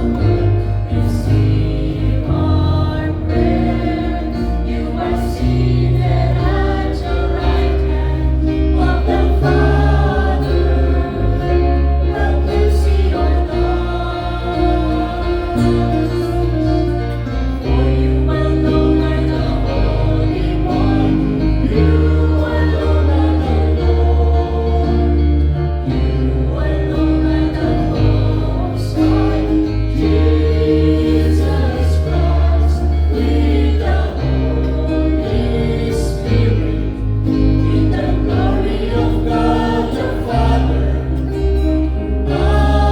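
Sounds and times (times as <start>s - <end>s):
choir singing a hymn: 0.0s - 42.9s.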